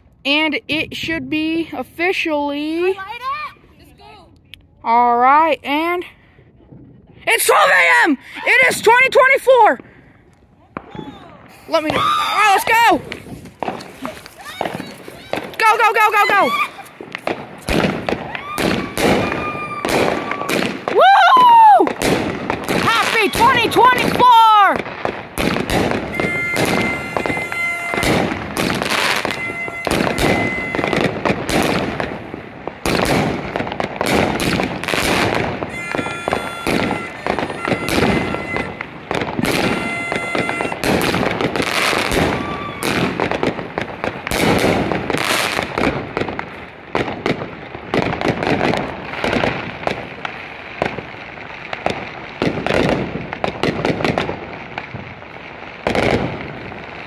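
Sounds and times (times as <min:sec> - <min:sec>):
fireworks bangs and crackles: 0:00.0 - 0:57.0
high whistling fireworks: 0:05.7 - 0:57.0.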